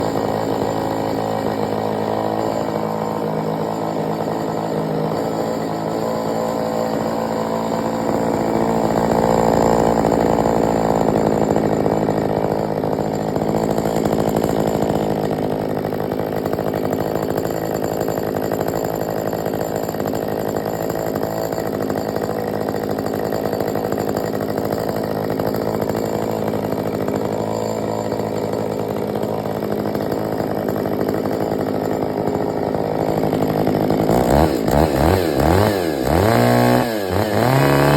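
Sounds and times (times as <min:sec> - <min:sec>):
chainsaw running: 0:00.0 - 0:37.9.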